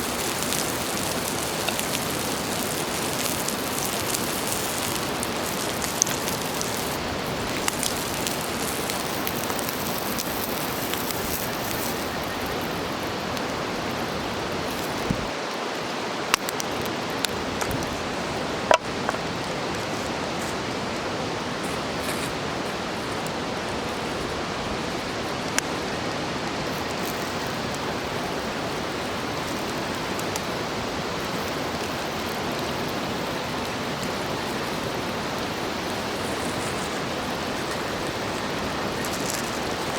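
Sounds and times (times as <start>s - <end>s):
food sizzling on griddle: 0.0s - 20.9s, 21.6s - 39.9s.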